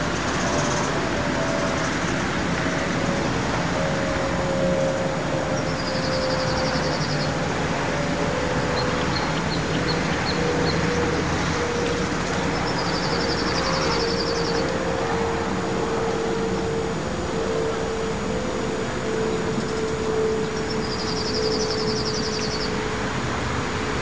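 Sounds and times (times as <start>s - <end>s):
background hum and rush: 0.0s - 24.0s.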